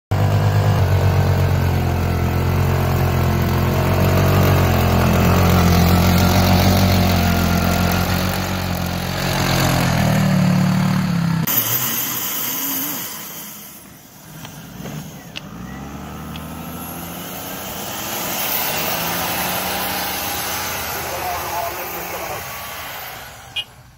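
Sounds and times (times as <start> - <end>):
suv engine ploughing through snow: 0.1 - 23.7
engine revving in deep snow: 0.1 - 23.9.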